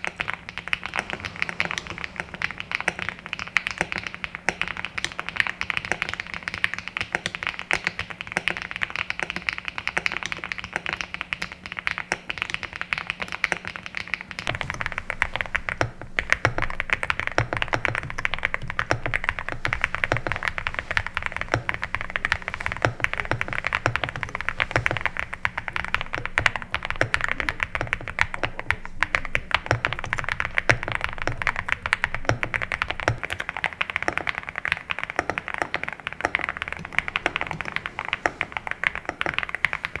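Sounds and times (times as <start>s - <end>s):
mechanical keyboard typing: 0.0s - 40.0s.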